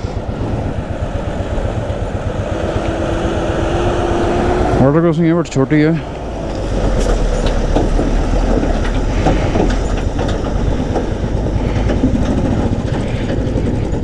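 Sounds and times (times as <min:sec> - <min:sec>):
motorcycle engine running: 0:00.0 - 0:14.0
truck engine: 0:00.0 - 0:14.0.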